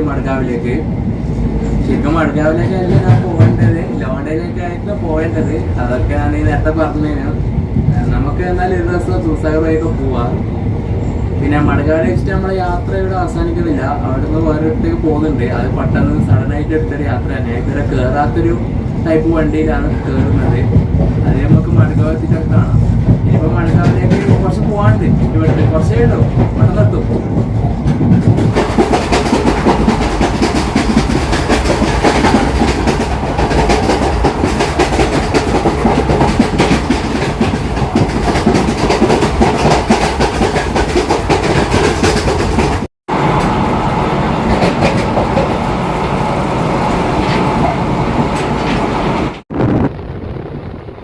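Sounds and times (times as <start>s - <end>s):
train coaches rumbling and rattling: 0.0s - 49.5s
wheels clickety-clack over rail joints: 1.6s - 10.4s, 11.6s - 43.6s, 44.4s - 49.4s.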